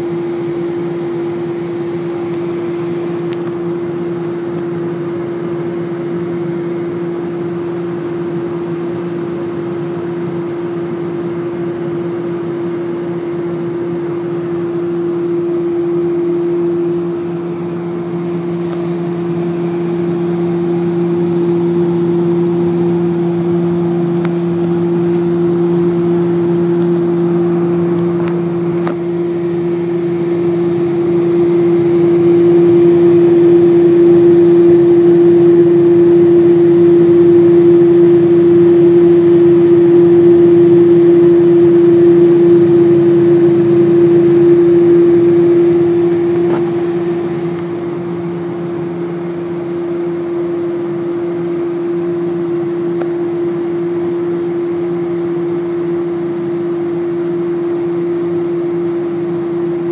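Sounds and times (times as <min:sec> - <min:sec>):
gas furnace humming: 0:00.0 - 0:59.9.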